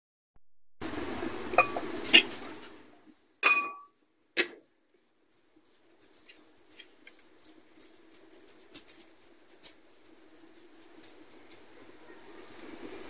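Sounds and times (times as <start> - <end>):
faint steady hum: 0.8 - 13.0.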